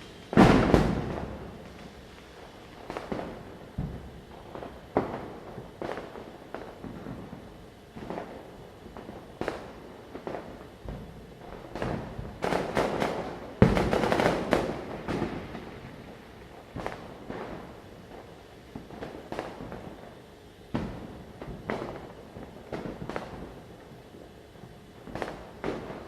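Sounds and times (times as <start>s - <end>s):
firecrackers bursting: 0.0s - 26.0s.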